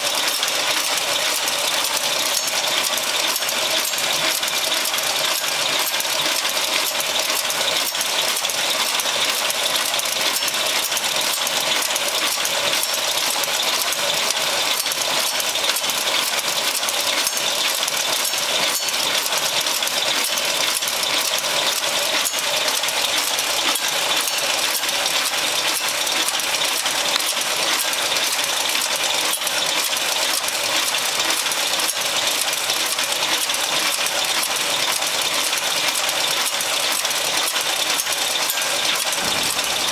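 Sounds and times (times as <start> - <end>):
machine clattering with rapid clicks: 0.0 - 39.9.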